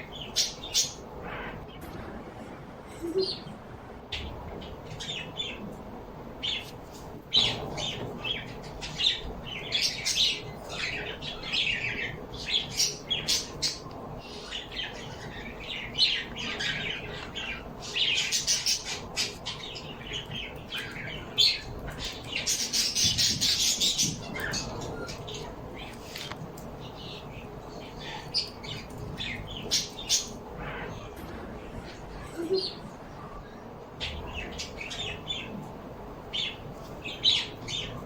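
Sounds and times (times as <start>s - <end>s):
birds chirping and squawking: 0.0s - 2.0s, 3.1s - 38.0s.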